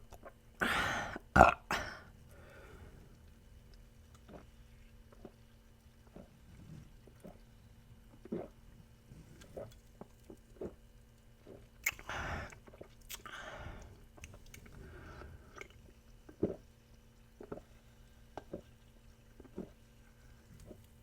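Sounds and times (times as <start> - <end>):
soft gulps: 0.0 - 21.0.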